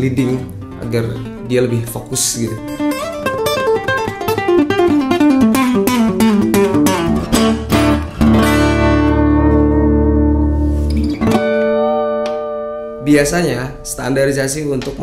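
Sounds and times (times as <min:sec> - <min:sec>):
acoustic guitar fingerstyle: 0:00.0 - 0:13.0.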